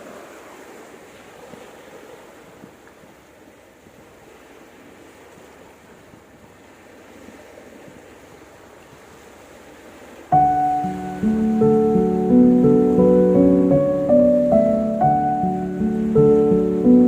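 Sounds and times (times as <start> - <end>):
waves washing on a beach: 0.0 - 17.0.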